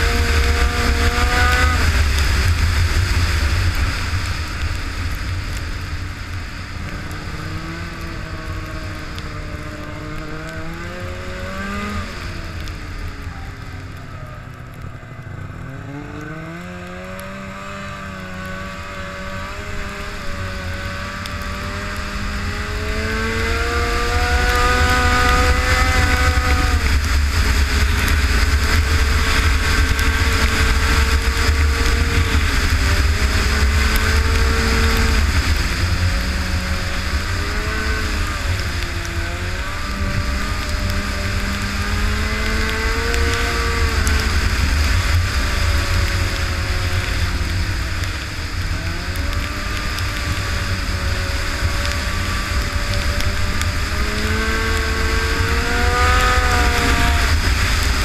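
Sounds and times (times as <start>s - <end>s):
snowmobile engine revving: 0.0s - 5.2s, 6.6s - 12.7s, 15.3s - 58.0s.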